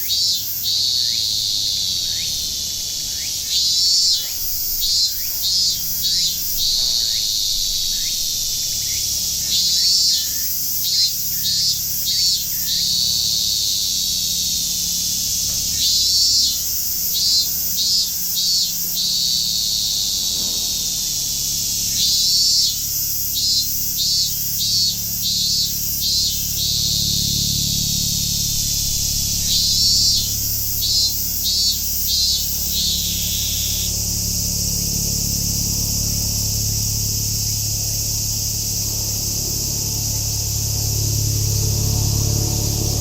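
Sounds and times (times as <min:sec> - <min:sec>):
cicada chorus buzzing: 0:00.0 - 0:43.0
loud pulsing cicada call: 0:00.0 - 0:43.0.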